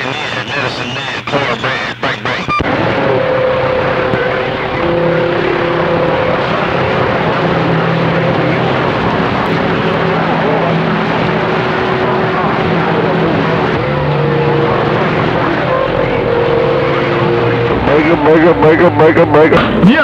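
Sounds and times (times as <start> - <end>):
radio static hiss: 0.0 - 20.0
whistling radio tones: 0.0 - 20.0.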